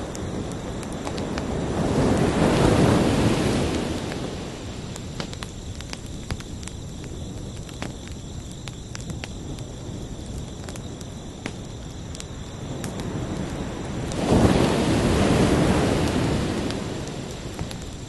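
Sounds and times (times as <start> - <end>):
cricket trill: 0.0 - 18.0.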